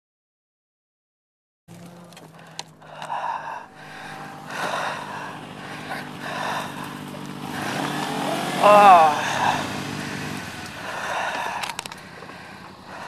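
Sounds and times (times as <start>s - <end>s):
motorcycle engine idling: 1.7s - 13.0s
hard breaths and gasps: 2.1s - 13.0s.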